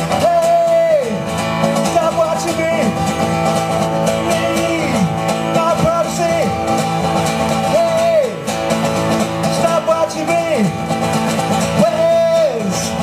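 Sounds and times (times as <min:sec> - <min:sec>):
country guitar melody with slides: 0:00.0 - 0:13.0
held guitar chords: 0:00.0 - 0:13.0.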